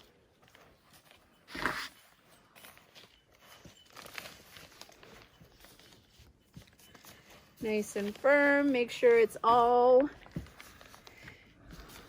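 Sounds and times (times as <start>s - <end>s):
soil rustling: 0.0s - 12.0s.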